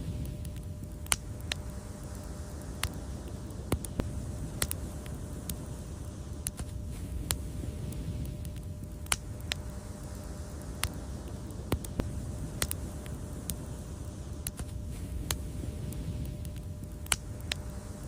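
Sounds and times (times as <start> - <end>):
low rumble of flames: 0.0 - 18.0
wood fire pops and snaps: 0.1 - 17.8.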